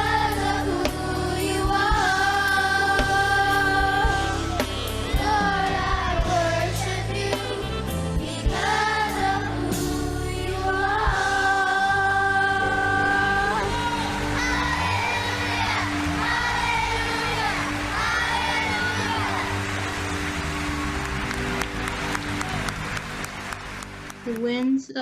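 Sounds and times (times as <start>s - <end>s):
gospel singing: 0.0s - 23.2s
bass and drums: 0.0s - 24.3s.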